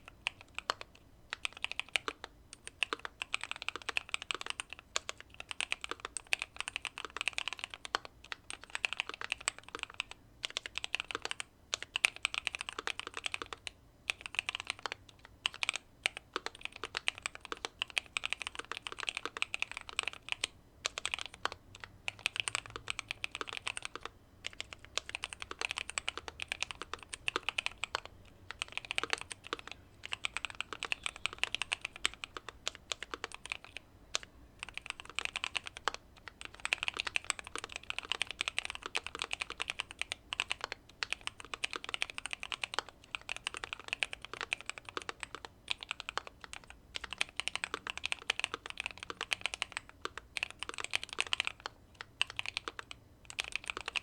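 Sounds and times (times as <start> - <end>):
typing on a mechanical keyboard: 0.0 - 54.0.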